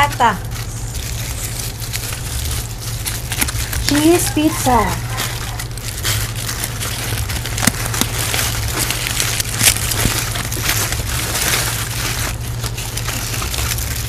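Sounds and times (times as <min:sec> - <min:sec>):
food packaging rustling and clicking: 0:00.0 - 0:14.0
steady low hum: 0:00.0 - 0:14.0.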